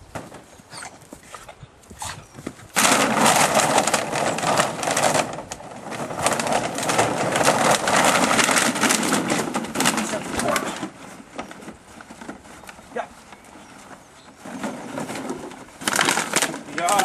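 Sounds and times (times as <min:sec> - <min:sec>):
plastic bottles clattering: 0:02.7 - 0:17.0.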